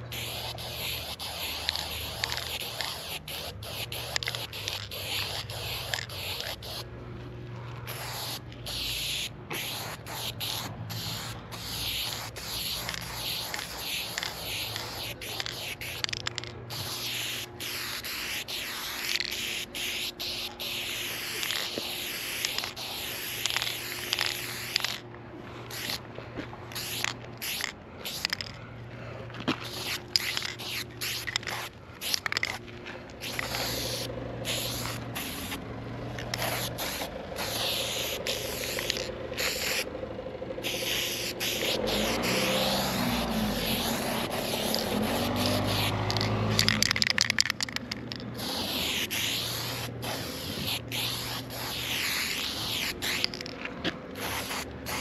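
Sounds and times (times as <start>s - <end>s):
spray paint can hissing: 0.0s - 6.9s, 7.8s - 25.0s, 25.7s - 26.0s, 26.7s - 28.6s, 29.5s - 39.9s, 40.6s - 53.6s, 54.2s - 55.0s.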